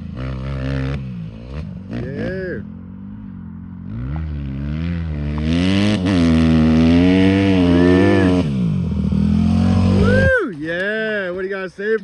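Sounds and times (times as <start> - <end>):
dirt bike engine revving: 0.0 - 10.4.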